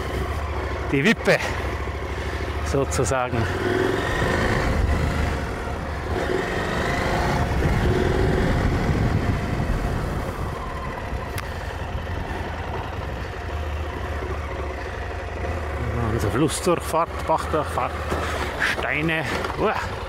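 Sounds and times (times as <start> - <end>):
motorcycle engine on gravel track: 0.0 - 20.0.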